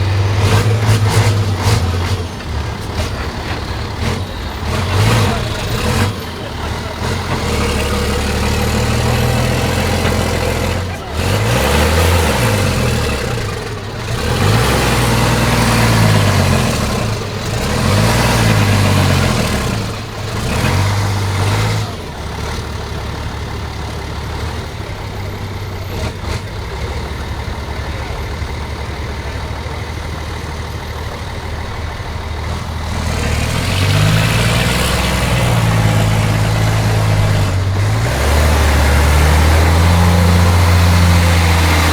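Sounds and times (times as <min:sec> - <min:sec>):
diesel truck engine revving: 0:00.0 - 0:41.9.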